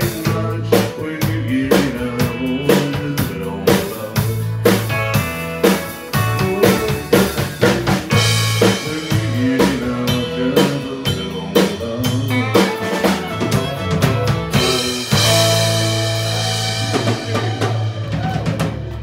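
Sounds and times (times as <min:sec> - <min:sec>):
acoustic guitar: 0:00.0 - 0:19.0
country band playing: 0:00.0 - 0:19.0
drum kit beat: 0:00.0 - 0:19.0
electric bass: 0:00.0 - 0:19.0.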